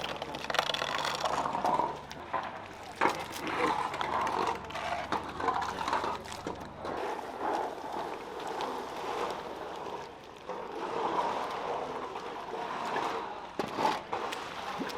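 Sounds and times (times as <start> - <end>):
water rushing: 0.0 - 14.9.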